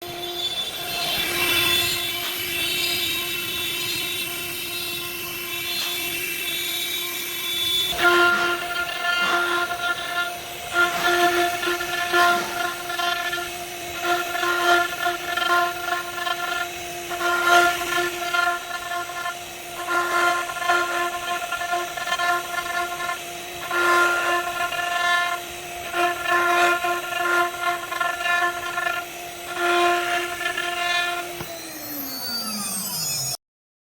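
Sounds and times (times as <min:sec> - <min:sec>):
router spindle whining: 0:00.0 - 0:33.4
cutting noise: 0:00.5 - 0:33.0.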